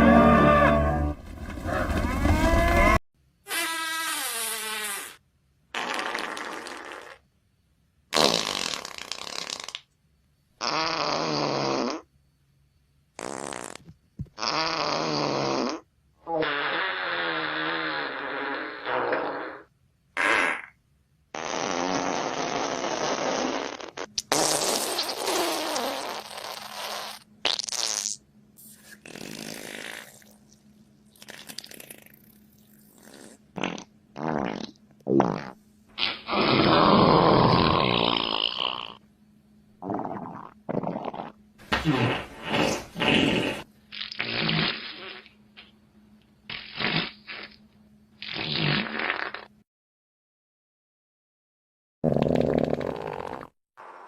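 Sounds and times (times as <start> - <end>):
fart sound effects: 0.0 - 7.3, 8.1 - 9.9, 10.6 - 12.1, 13.2 - 30.4, 31.2 - 39.0, 39.8 - 45.7, 46.5 - 47.6, 48.2 - 49.6, 52.0 - 54.0.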